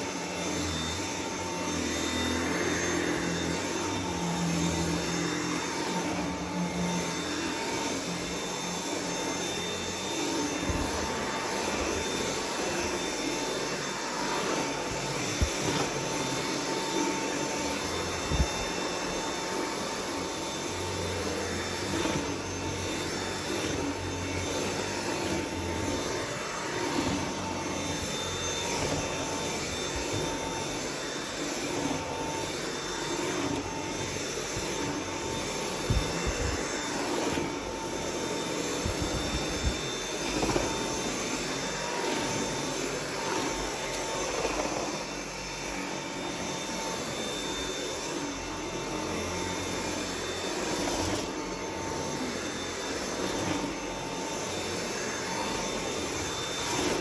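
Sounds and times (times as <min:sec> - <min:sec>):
vacuum cleaner on carpet: 0:00.0 - 0:57.0.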